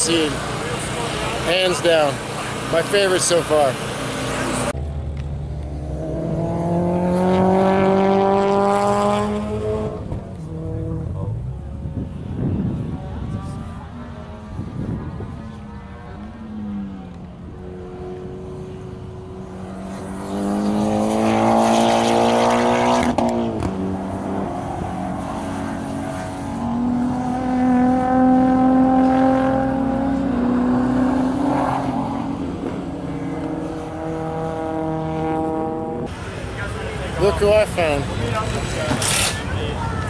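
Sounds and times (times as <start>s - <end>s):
engine pulling steadily: 0.0s - 40.0s
race car engine revving: 0.0s - 40.0s.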